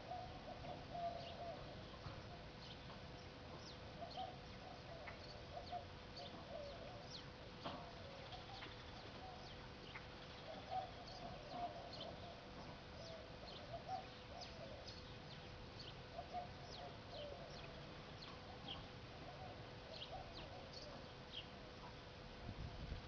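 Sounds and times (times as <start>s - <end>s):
steady low hum: 0.0s - 23.0s
bird chirps: 0.1s - 21.6s.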